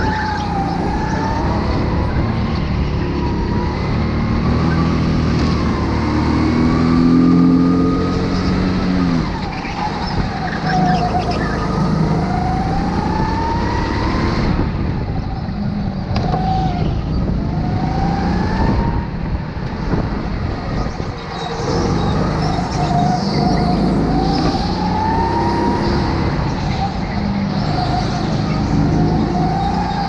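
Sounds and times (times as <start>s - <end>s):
go-kart engine revving: 0.0s - 19.2s, 19.8s - 30.0s.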